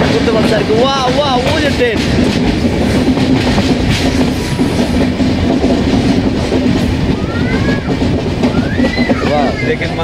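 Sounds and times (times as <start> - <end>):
clickety-clack of rail joints: 0.0 - 10.0
train wheels rumbling on rail: 0.0 - 10.0.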